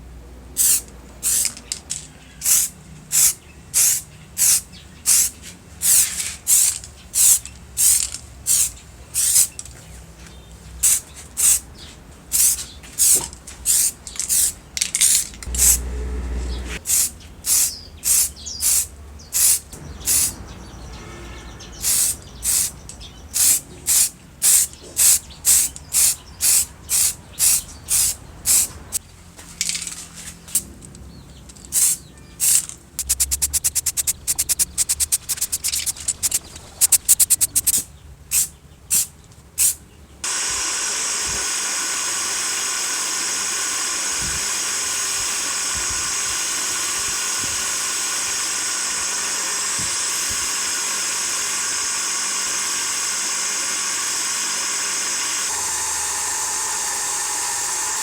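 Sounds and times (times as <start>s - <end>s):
pressurised spray from nozzle: 0.6s - 1.5s, 2.4s - 9.6s, 10.8s - 11.6s, 12.3s - 20.5s, 21.7s - 22.8s, 23.4s - 29.0s, 31.8s - 58.0s.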